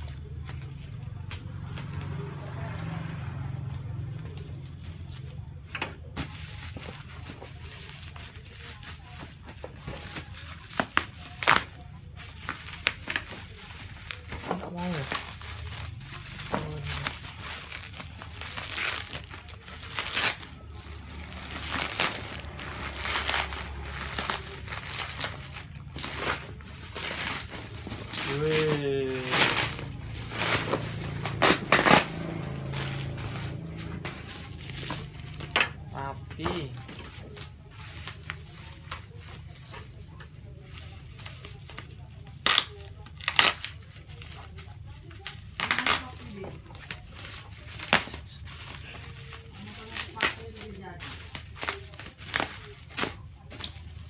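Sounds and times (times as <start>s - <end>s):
packaging crinkling and rustling: 4.3s - 54.0s.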